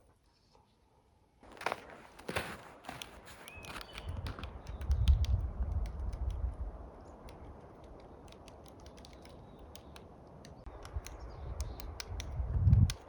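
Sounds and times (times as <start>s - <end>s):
campfire crackling: 1.4s - 13.0s
sharp pops and snaps: 1.6s - 13.0s.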